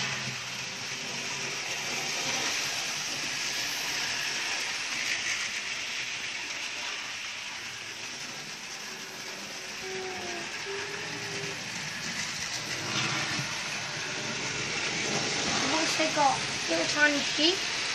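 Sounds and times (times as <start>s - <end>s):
model train whirring and rattling: 0.0s - 17.9s.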